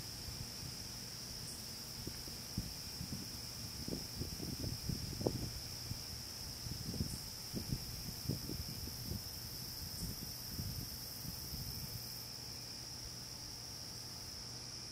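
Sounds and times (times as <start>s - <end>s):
night insects trilling: 0.0s - 14.9s.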